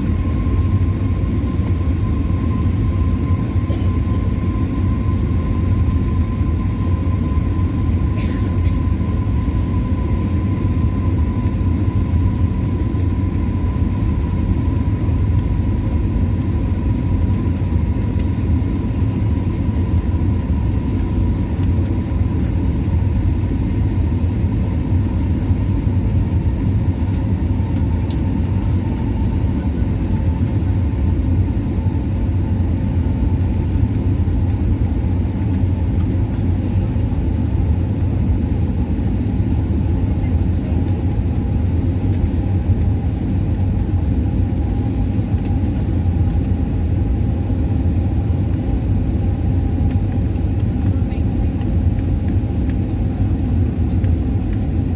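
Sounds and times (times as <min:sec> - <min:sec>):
airplane cabin engine rumble: 0:00.0 - 0:54.9
thin steady whine: 0:00.0 - 0:54.9.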